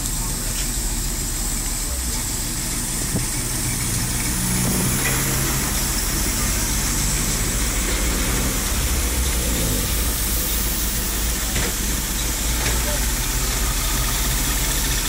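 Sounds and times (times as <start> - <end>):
pickup truck engine idling: 0.0 - 15.0.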